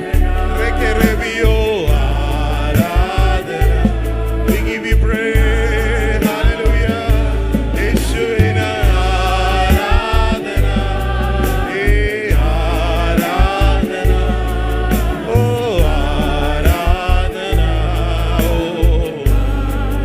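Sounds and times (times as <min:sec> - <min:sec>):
regular drum beats: 0:00.0 - 0:20.0
steady bass: 0:00.0 - 0:20.0
voices singing a gospel song: 0:00.0 - 0:20.0.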